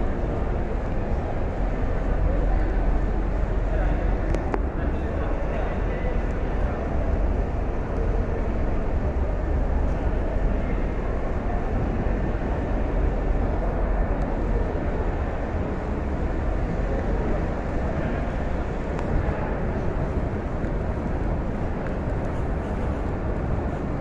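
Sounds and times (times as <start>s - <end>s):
steady low rumbling: 0.0s - 24.0s.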